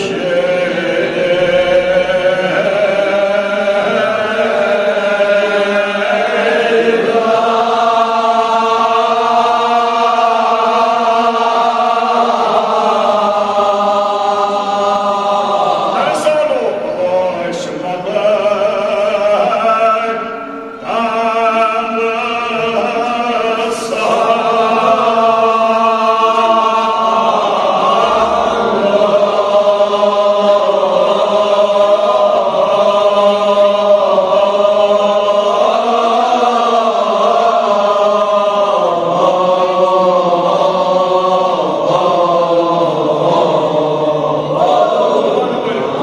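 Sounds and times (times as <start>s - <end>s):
man chanting: 0.0s - 46.0s
men chanting together: 0.0s - 46.0s.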